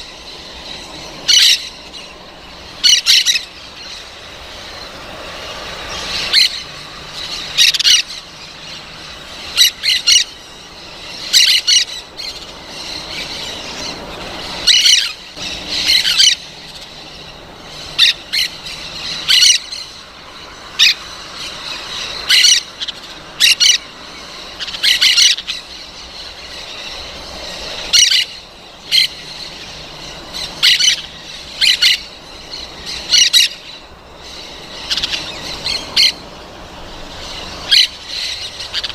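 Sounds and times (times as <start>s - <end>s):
parrot squawking: 0.0s - 20.0s, 20.6s - 36.3s, 36.9s - 38.9s.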